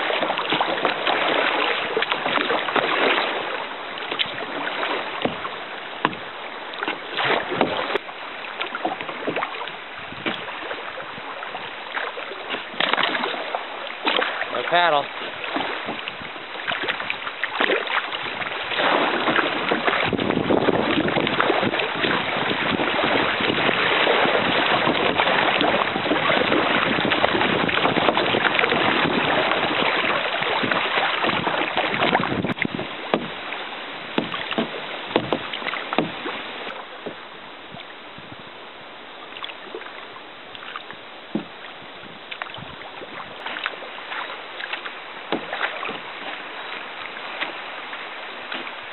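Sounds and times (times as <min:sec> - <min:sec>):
small splashes and knocks: 0:00.0 - 0:37.9, 0:39.3 - 0:48.9
river water rushing: 0:00.0 - 0:48.9
water flowing: 0:00.0 - 0:48.9.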